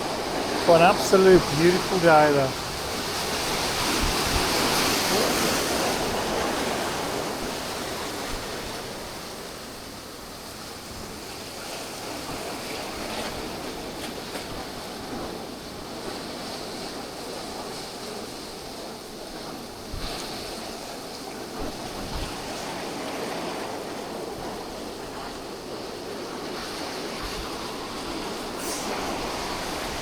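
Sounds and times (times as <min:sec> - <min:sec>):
ocean surf on a beach: 0:00.0 - 0:30.0.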